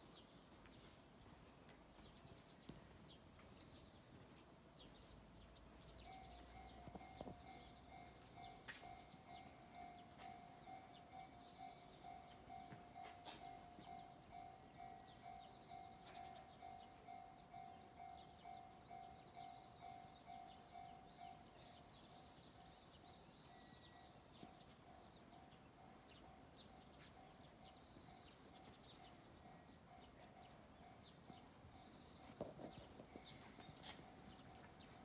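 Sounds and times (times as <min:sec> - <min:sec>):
level crossing warning bell: 0:05.8 - 0:35.0.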